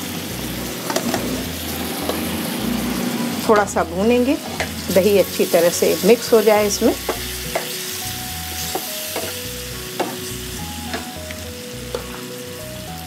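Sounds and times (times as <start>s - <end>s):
potatoes sizzling in frying pan: 0.0s - 13.0s
soft background music: 0.0s - 13.0s.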